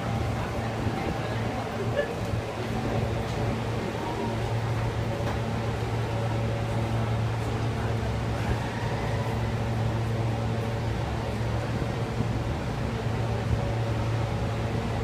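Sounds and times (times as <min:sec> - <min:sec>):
subway car humming: 0:00.0 - 0:15.0.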